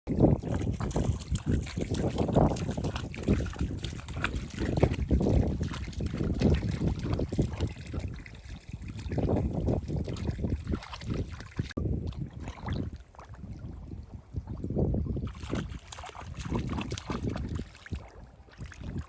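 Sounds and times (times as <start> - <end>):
shallow water splashing: 0.1 - 14.6, 15.2 - 19.0.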